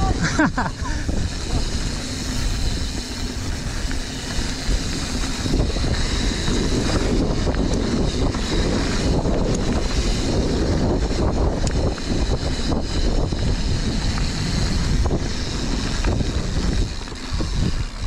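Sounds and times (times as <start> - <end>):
tyres rumbling on dirt: 0.0 - 18.0
wind buffeting microphone: 0.0 - 18.0
bike clicks and knocks: 0.4 - 18.0.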